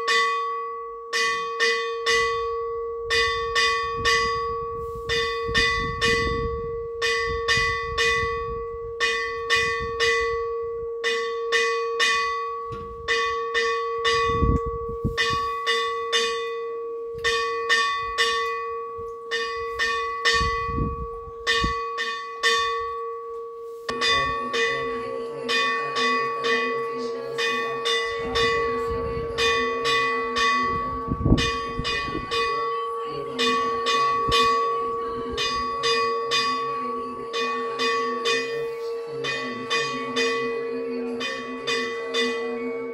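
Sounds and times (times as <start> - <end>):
low dense ringing: 0.0 - 42.9
temple bell ringing: 0.0 - 42.9.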